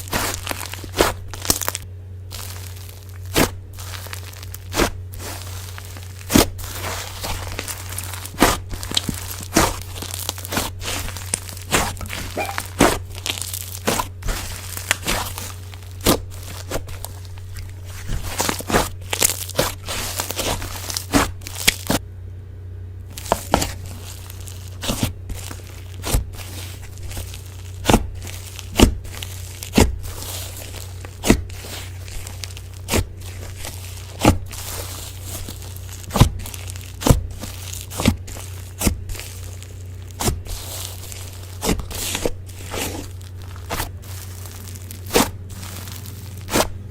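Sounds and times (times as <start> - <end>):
slime squished with crackling clicks: 0.0 - 22.0, 23.2 - 46.8
steady low hum: 0.0 - 46.9.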